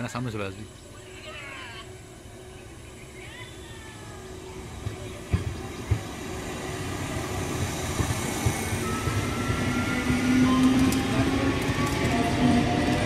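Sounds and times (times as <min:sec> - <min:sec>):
train motor hum: 0:01.9 - 0:13.0
train wheels rumbling on rails: 0:01.9 - 0:13.0.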